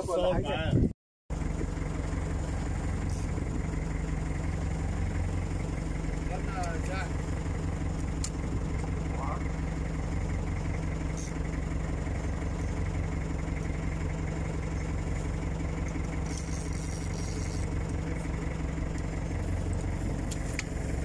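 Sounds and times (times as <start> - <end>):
boat engine humming: 1.3 - 21.0.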